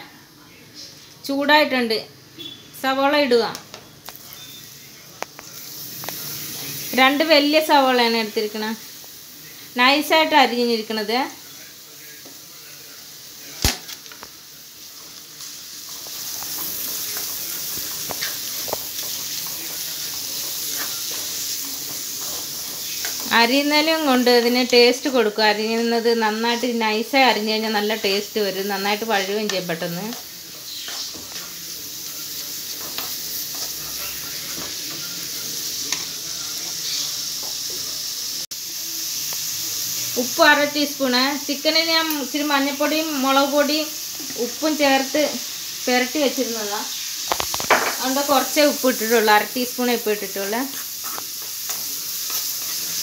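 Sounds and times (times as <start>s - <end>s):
onions sizzling in oil: 0.0s - 53.0s.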